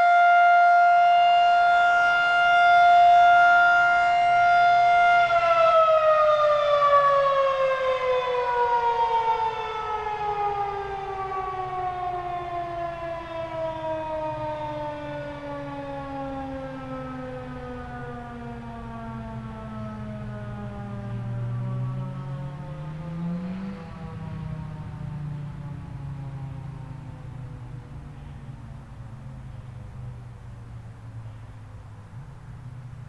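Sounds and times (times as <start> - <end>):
warning siren winding down: 0.0 - 28.0.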